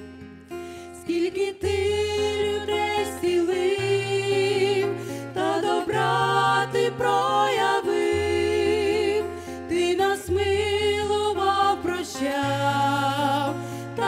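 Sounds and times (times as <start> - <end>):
women singing worship song: 0.9 - 14.0.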